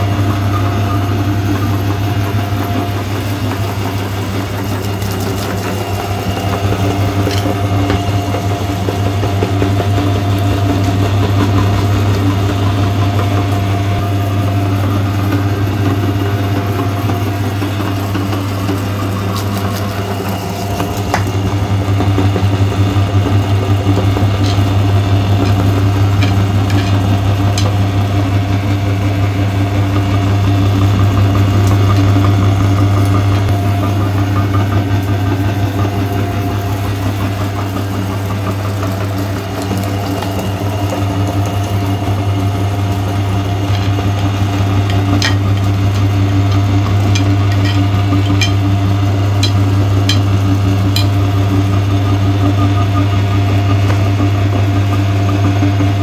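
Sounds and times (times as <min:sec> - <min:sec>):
electric meat grinder humming: 0:00.0 - 0:56.0.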